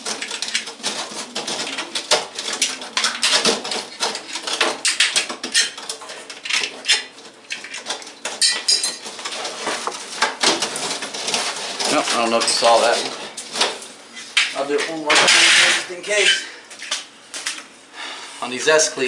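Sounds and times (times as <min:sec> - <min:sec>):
sheet metal clanks and scrapes: 0:00.0 - 0:16.6.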